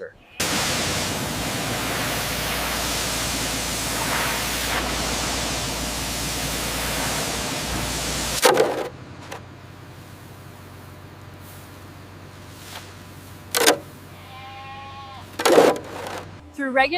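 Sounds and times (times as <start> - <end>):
static hissing noise: 0.0 - 16.4.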